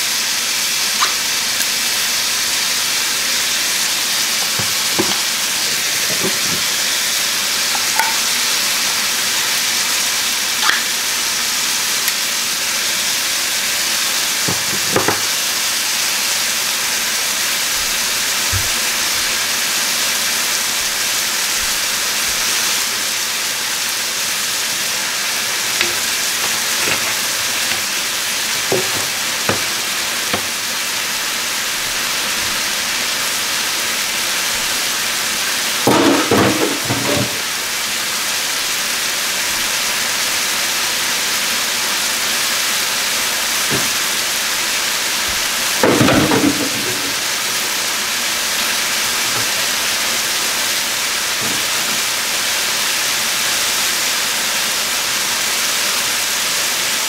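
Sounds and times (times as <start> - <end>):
chicken sizzling in a skillet: 0.0 - 57.0.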